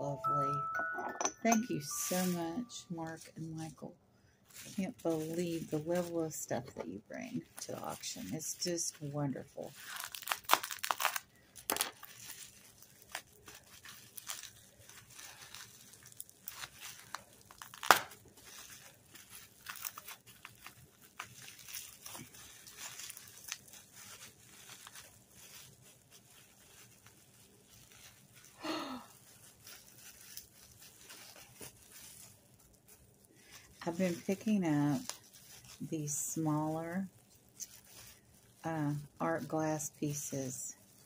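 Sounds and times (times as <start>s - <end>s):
bubble wrap crinkling: 1.7s - 41.0s.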